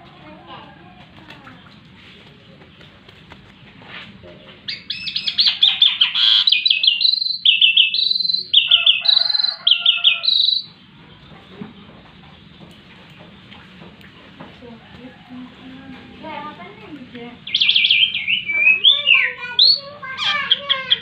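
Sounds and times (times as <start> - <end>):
songbird singing: 1.4 - 21.0.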